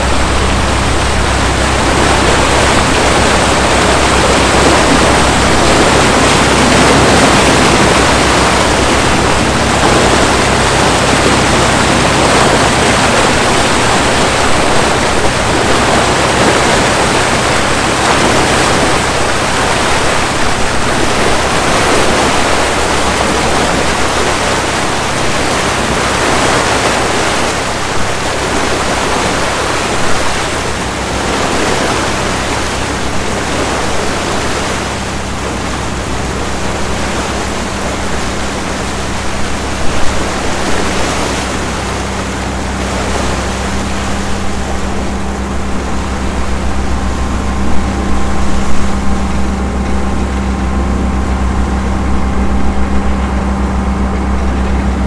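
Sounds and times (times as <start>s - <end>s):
low engine hum: 0.0s - 55.0s
rush of boat wake water: 0.0s - 55.0s.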